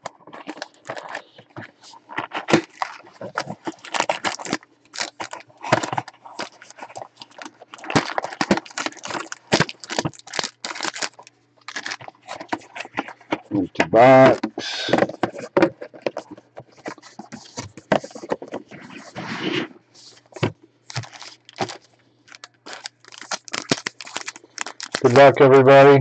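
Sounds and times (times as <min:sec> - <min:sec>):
cardboard and wrapper crackling: 0:00.0 - 0:25.5.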